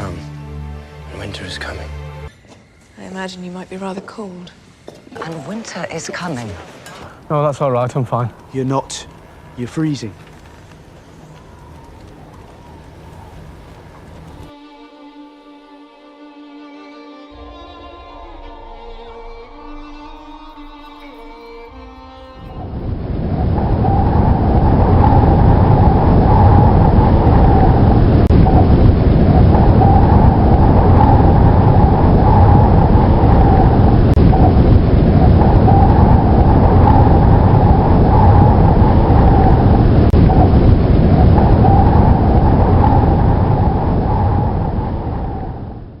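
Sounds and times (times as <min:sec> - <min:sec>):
howling storm wind: 0:00.0 - 0:14.6, 0:20.5 - 0:46.0.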